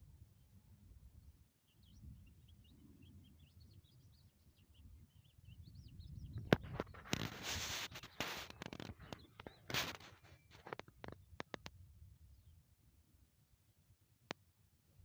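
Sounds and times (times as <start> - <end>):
songbird chirping: 0.1 - 13.0.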